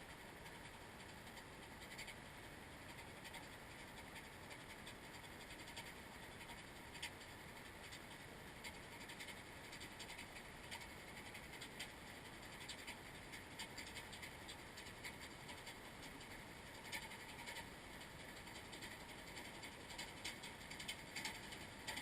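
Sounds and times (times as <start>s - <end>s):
faint steady hiss: 0.0s - 22.0s
faint clicks: 0.4s - 22.0s.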